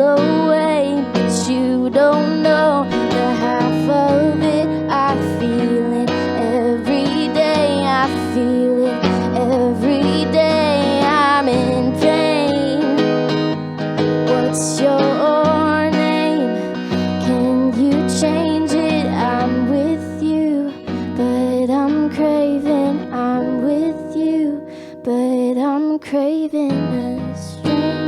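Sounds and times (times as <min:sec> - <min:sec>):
strummed acoustic guitar: 0:00.0 - 0:28.0
woman singing: 0:00.0 - 0:28.0.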